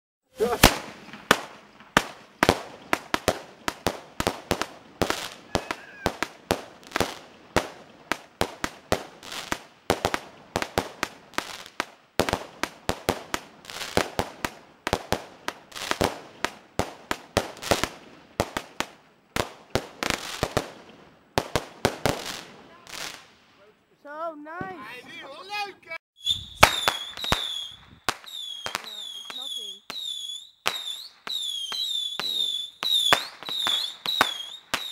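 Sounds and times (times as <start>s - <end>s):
fireworks bangs: 0.3s - 23.8s, 24.4s - 25.4s, 26.2s - 34.9s.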